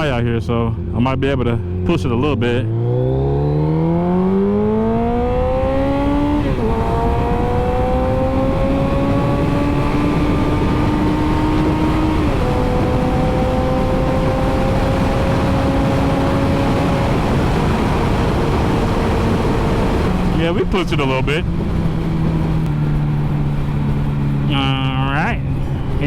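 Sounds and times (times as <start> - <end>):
motorcycle engine accelerating: 0.0 - 26.0
wind rushing: 2.6 - 26.0.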